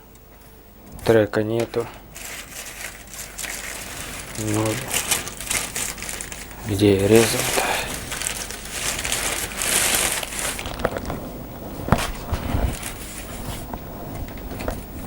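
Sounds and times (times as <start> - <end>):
packaging rustling and crinkling: 1.6 - 14.9.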